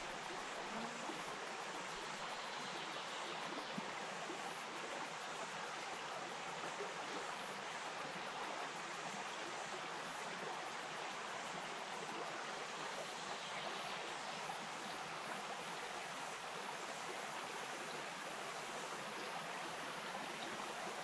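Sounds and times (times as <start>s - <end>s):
stream flowing over stones: 0.0s - 21.0s.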